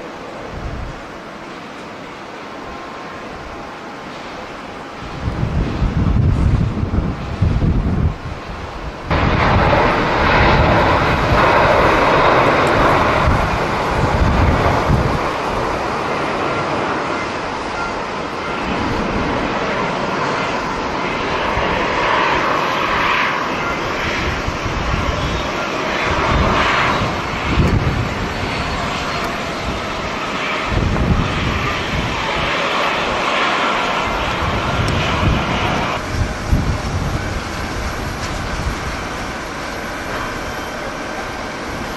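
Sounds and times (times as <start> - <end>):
wind buffeting microphone: 0.0 - 1.2, 4.8 - 41.9
jet engines running: 0.0 - 41.9.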